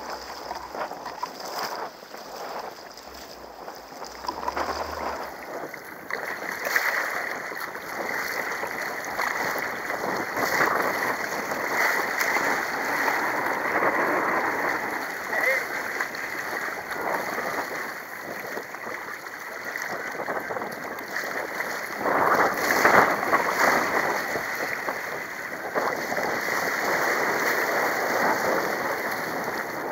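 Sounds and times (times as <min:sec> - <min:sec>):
water splashing against kayak hull: 0:00.0 - 0:29.9.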